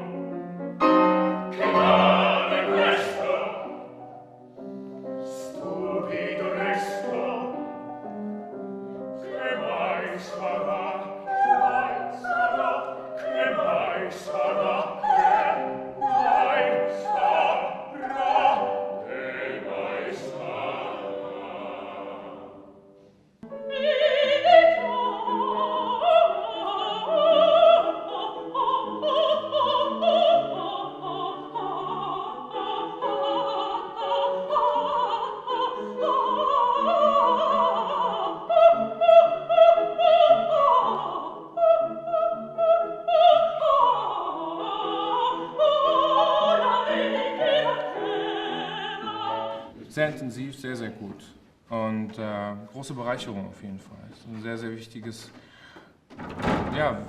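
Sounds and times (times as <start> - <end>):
operatic singing with instruments: 0.0 - 53.5.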